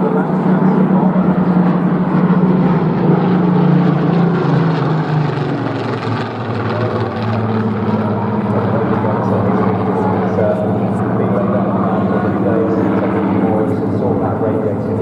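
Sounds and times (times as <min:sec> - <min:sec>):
propeller aircraft engine running: 0:00.0 - 0:15.0.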